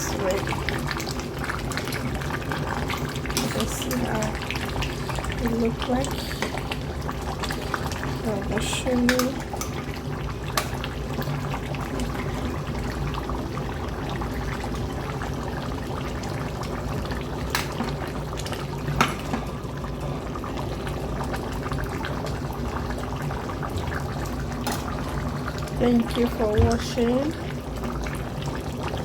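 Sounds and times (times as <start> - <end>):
soup simmering and bubbling: 0.0 - 29.0.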